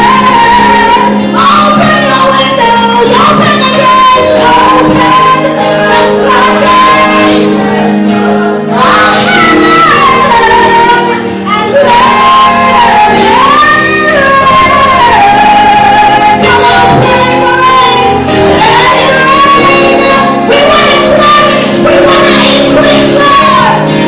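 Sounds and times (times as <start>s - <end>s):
woman singing: 0.0s - 7.9s, 8.7s - 24.0s
sustained instrumental chords: 0.0s - 24.0s.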